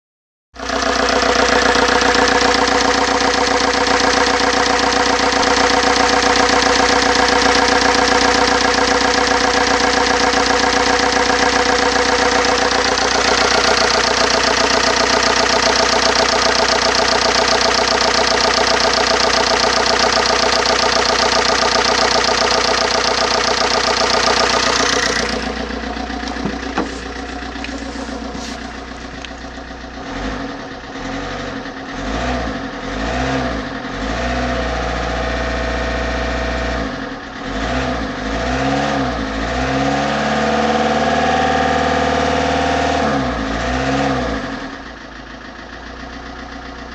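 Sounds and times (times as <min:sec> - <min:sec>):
diesel engine idling: 0:00.6 - 0:37.5, 0:43.4 - 0:46.9.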